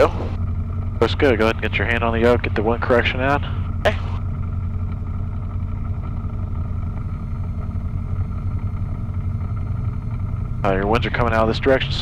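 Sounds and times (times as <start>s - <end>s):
aircraft engine and propeller: 0.0s - 12.0s.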